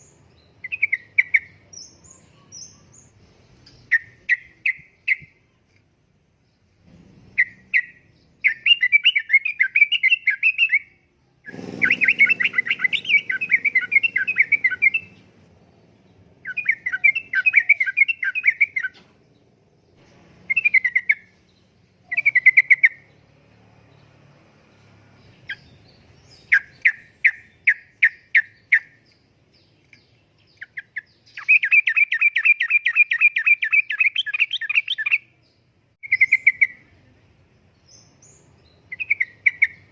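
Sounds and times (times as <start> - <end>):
bulbul singing: 0.0 - 5.8, 6.4 - 39.9.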